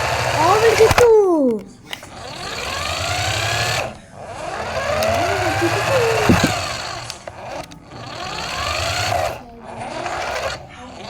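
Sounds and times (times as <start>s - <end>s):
toy car electric motor whining: 0.0s - 11.0s.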